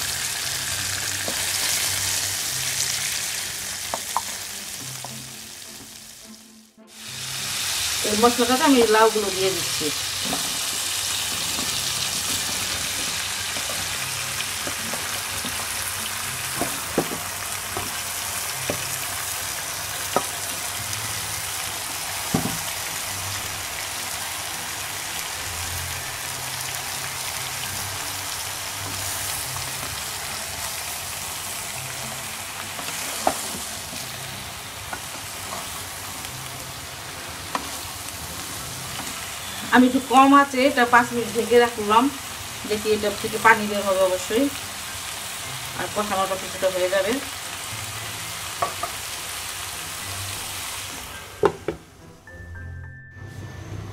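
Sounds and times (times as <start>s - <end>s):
masala sizzling in frying pan: 0.0s - 51.5s.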